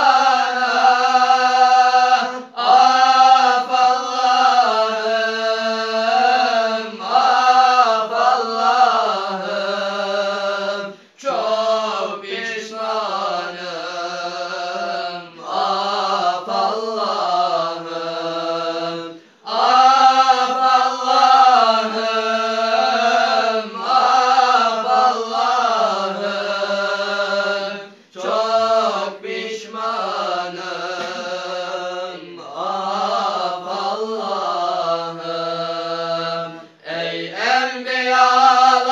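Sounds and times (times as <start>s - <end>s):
young men chanting a hymn: 0.0s - 38.9s.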